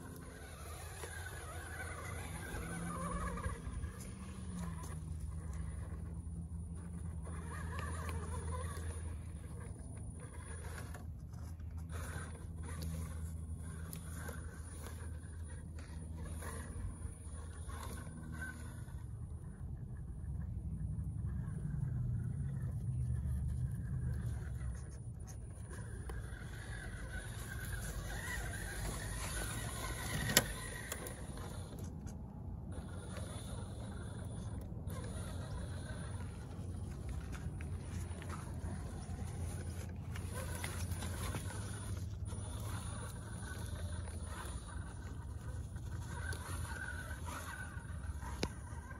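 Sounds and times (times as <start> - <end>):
tyres crunching over loose dirt: 0.0 - 20.2, 22.4 - 48.9
electric motor whirring: 0.0 - 48.9.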